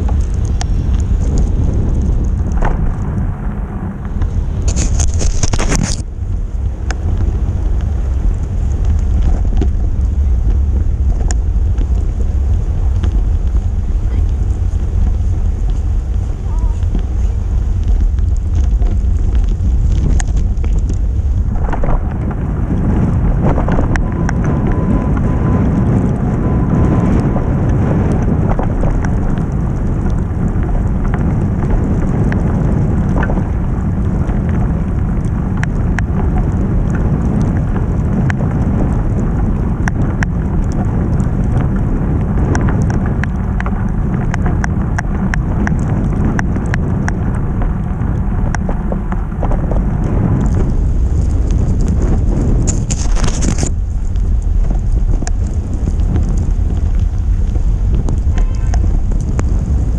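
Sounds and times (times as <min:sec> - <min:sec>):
wind buffeting microphone: 0:00.0 - 0:59.9
sharp ticks and clicks: 0:04.0 - 0:25.4, 0:27.1 - 0:59.9.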